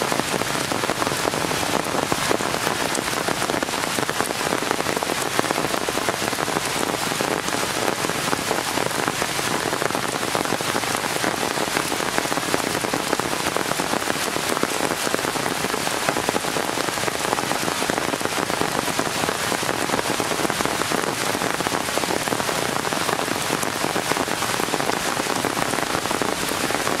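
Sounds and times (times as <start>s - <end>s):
rain falling on leaves: 0.0s - 27.0s.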